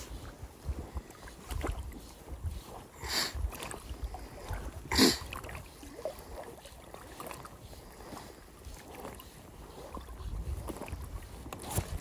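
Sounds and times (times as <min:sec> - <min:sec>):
wind buffeting microphone: 0:00.0 - 0:06.4, 0:07.1 - 0:12.0
water lapping around boat: 0:00.0 - 0:12.0.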